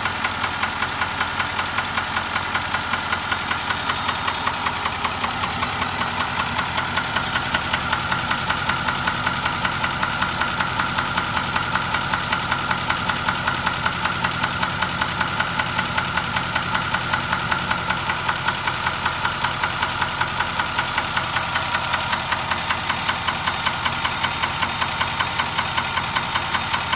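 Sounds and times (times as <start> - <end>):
regular engine knock: 0.1 - 26.9
engine running: 0.9 - 26.9.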